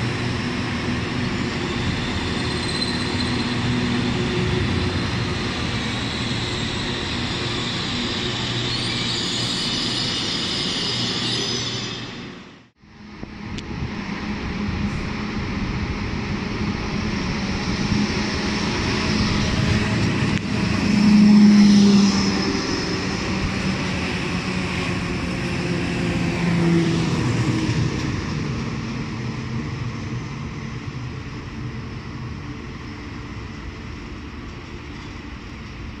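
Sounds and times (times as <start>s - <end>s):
train passing by: 0.0s - 36.0s.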